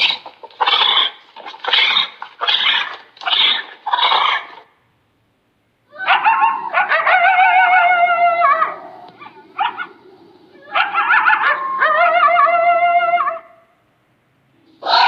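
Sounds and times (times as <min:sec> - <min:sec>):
animal high-pitched calls: 0:00.0 - 0:04.7, 0:05.9 - 0:13.6, 0:14.7 - 0:15.0.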